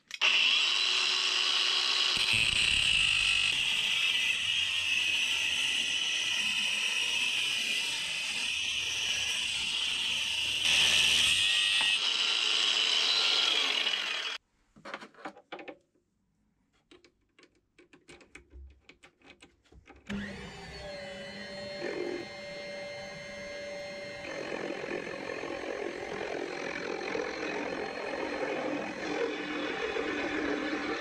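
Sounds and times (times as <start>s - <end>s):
power tool running: 0.2s - 14.4s, 20.1s - 31.0s.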